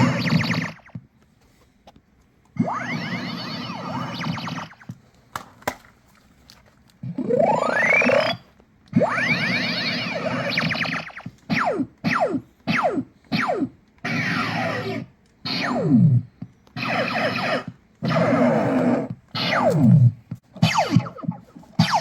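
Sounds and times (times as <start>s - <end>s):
toy laser sword sound effects: 0.0s - 1.0s, 2.6s - 4.9s, 7.1s - 16.2s, 16.8s - 22.0s.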